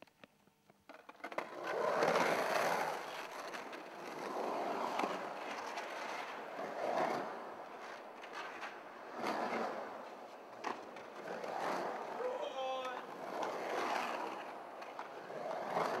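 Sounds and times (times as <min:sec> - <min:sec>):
skateboard wheels rolling on concrete: 0:00.0 - 0:16.0.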